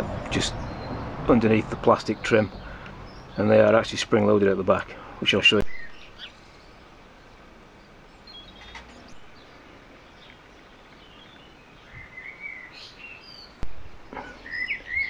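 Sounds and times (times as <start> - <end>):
birds chirping: 0.0 - 15.0
outdoor background noise: 0.0 - 15.0.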